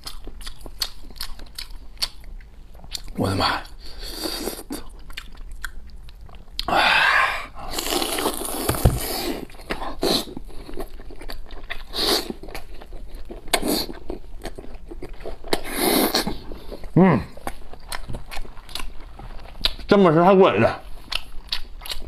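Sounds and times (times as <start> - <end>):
person chewing meat: 0.0 - 19.9, 20.8 - 22.0.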